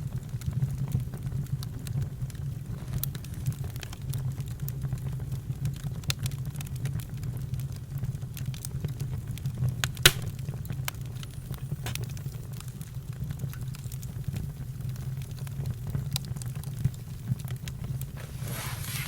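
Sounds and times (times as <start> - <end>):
campfire crackling and popping: 0.0 - 19.0
low fire rumble: 0.0 - 19.0.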